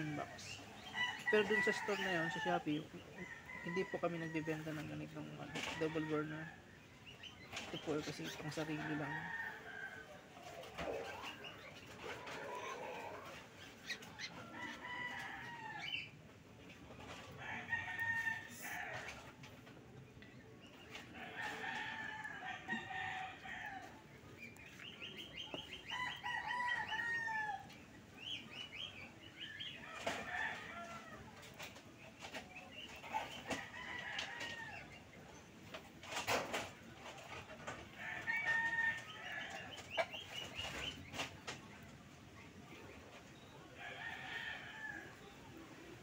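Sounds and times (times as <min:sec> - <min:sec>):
roosters crowing: 0:00.0 - 0:06.8, 0:07.9 - 0:19.6, 0:20.8 - 0:28.5, 0:29.2 - 0:32.4, 0:33.1 - 0:35.2, 0:36.0 - 0:41.4, 0:43.6 - 0:46.0.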